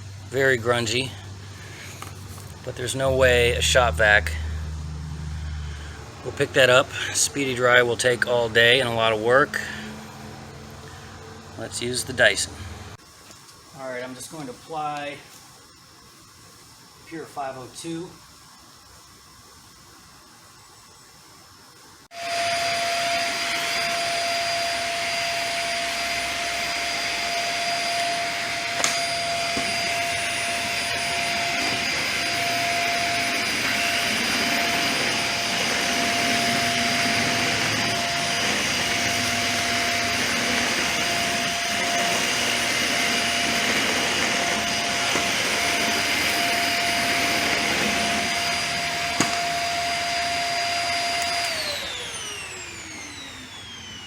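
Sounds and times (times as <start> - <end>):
vacuum cleaner whining: 0.0 - 13.1, 22.0 - 54.0.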